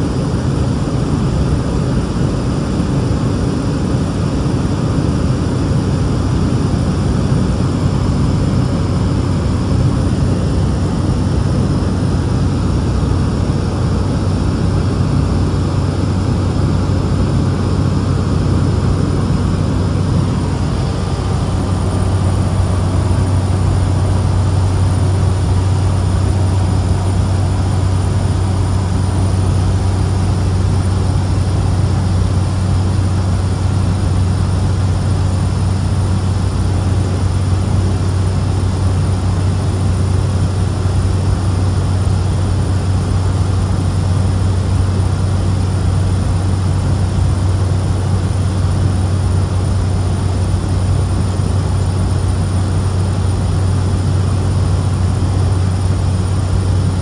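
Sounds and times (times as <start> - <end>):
propeller engine drone: 0.0 - 57.0
steady rush of noise: 0.0 - 57.0.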